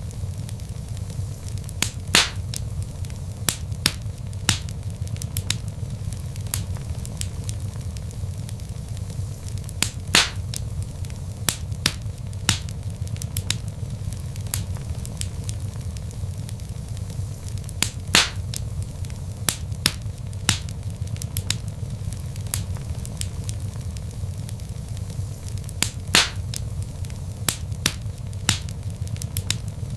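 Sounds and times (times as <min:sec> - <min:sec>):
low rumble of flames: 0:00.0 - 0:29.9
wood fire crackling: 0:00.0 - 0:29.9.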